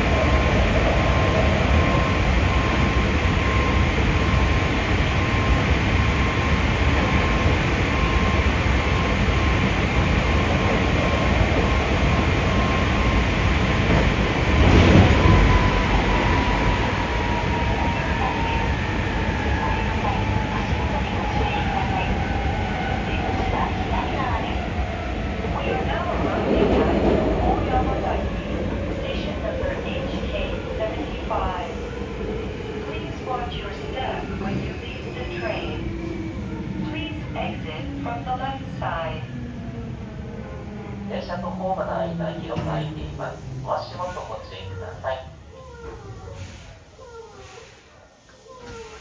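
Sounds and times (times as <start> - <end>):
train wheels rumbling on rails: 0.0 - 44.8.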